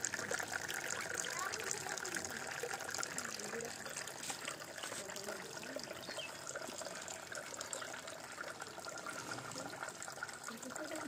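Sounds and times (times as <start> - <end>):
fountain water trickling and splashing: 0.0 - 11.0.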